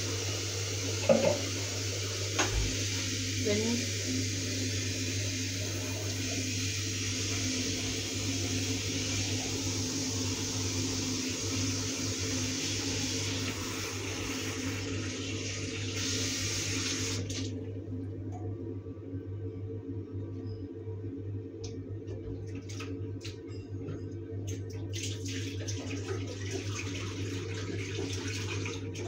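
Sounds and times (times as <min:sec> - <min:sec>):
tap water running: 0:00.0 - 0:17.6, 0:22.0 - 0:29.0.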